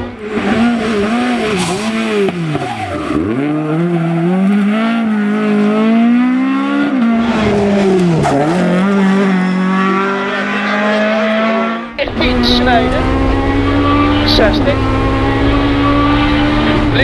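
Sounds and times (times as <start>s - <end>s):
rally car engine revving hard: 0.0s - 17.0s.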